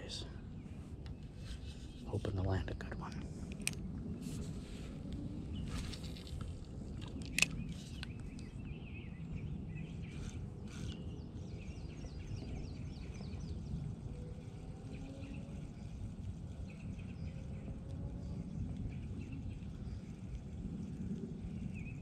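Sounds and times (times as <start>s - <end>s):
low outdoor rumble: 0.0s - 22.0s
small birds singing: 0.0s - 22.0s.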